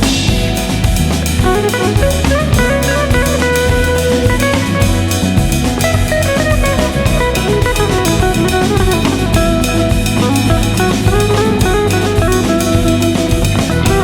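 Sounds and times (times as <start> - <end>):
drum kit beat: 0.0 - 14.0
guitar: 0.0 - 14.0.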